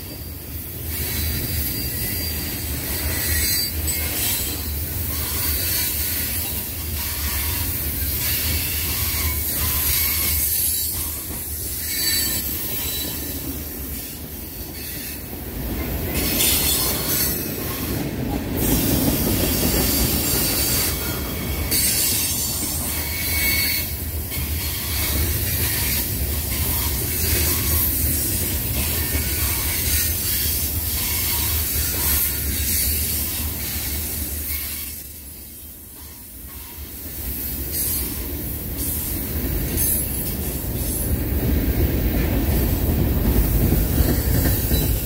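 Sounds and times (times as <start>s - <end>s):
steel wheels rumbling on rail: 0.0s - 45.0s.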